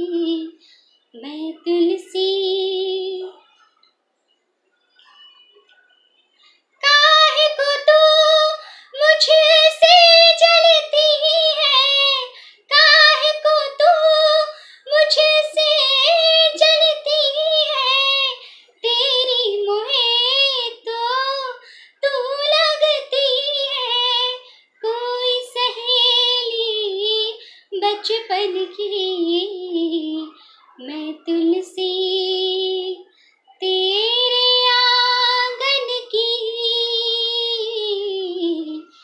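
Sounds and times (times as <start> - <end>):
woman singing unaccompanied: 0.0 - 3.6, 6.8 - 39.0.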